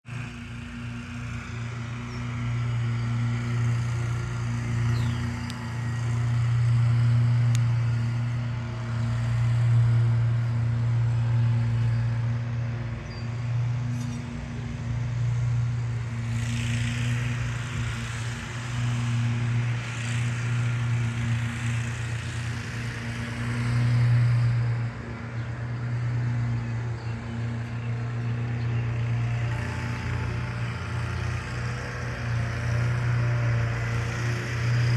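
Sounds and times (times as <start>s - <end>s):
motor droning: 0.1s - 34.9s.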